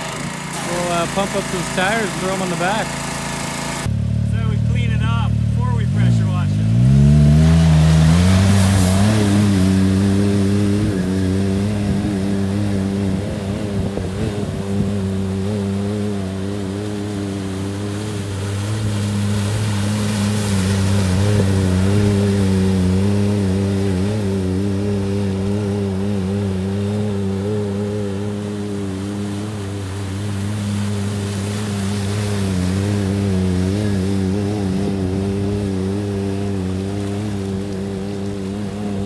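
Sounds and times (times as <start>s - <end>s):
engine running: 0.0s - 39.0s
water splashing from wheels: 0.0s - 39.0s.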